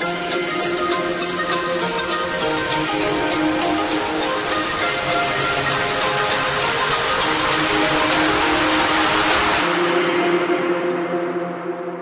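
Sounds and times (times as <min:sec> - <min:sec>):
held synth chords: 0:00.0 - 0:12.0.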